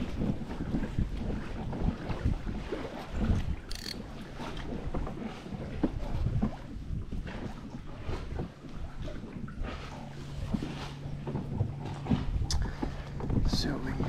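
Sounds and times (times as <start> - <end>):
waves lapping against kayak hull: 0.0 - 14.0
wind on microphone: 0.0 - 14.0.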